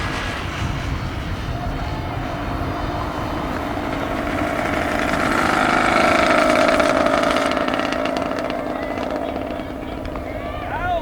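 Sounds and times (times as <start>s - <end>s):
vehicle engine approaching: 0.0s - 11.0s.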